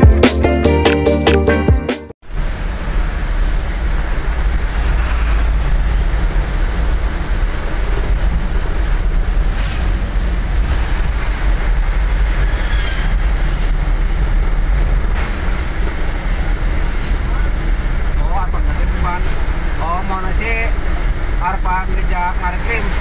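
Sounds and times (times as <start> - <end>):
diesel engine from inside cab: 2.2 - 23.0
road noise: 2.2 - 23.0.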